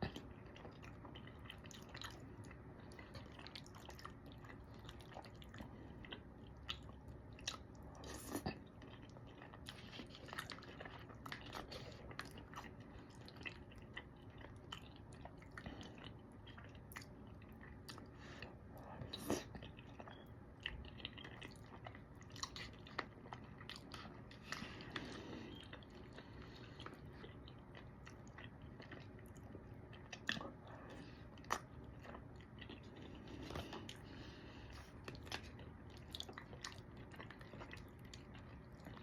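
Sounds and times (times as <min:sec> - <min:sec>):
wet chewing mouth sounds: 0:00.0 - 0:39.0.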